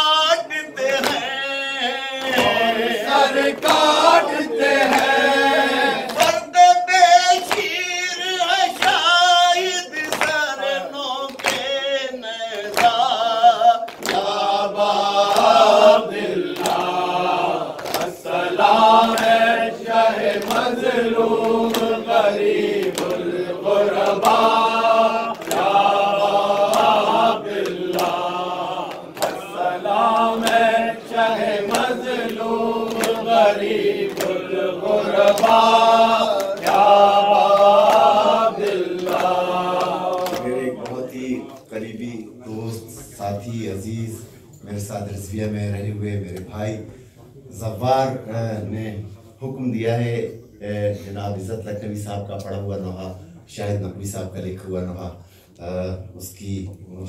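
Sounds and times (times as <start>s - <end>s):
men chanting in unison: 0.0s - 45.1s, 47.5s - 51.6s
lead reciter chanting: 0.0s - 57.0s.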